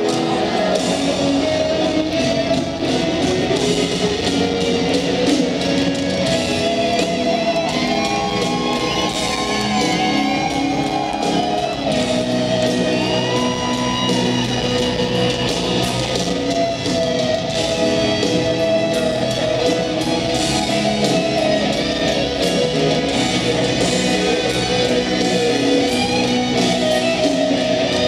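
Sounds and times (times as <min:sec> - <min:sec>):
electric guitar solo: 0:00.0 - 0:28.0
piano: 0:00.0 - 0:28.0
rock band playing ballad: 0:00.0 - 0:28.0.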